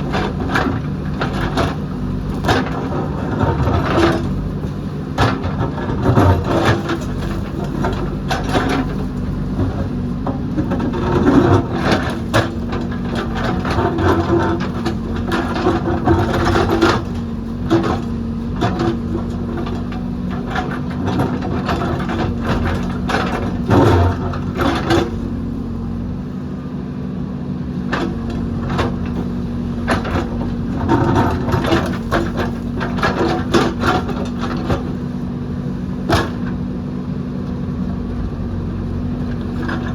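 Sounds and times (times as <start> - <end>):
bucket and arm clanking: 0.0 - 25.5, 27.8 - 36.6
diesel engine running: 0.0 - 39.9.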